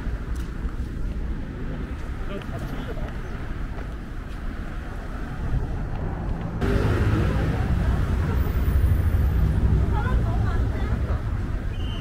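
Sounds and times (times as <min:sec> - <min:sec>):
city ambience rumble: 0:00.0 - 0:12.0.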